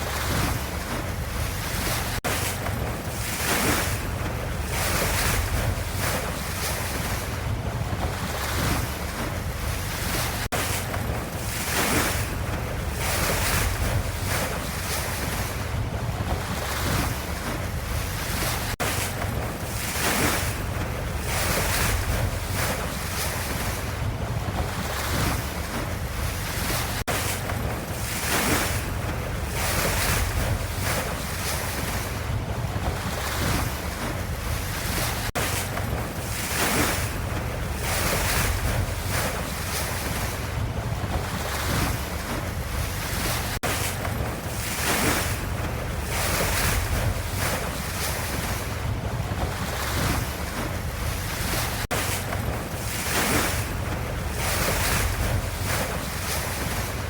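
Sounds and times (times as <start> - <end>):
ocean waves washing in: 0.0 - 57.0.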